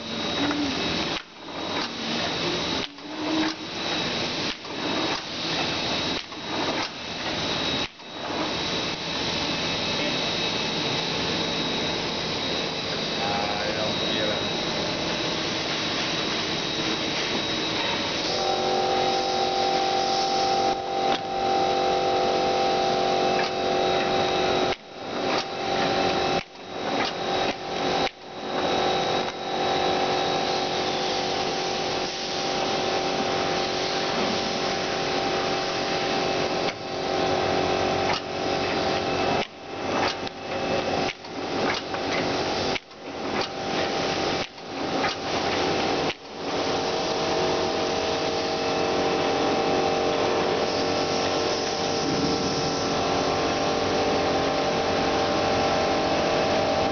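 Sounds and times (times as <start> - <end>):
machine humming with whining tones: 0.0 - 56.9.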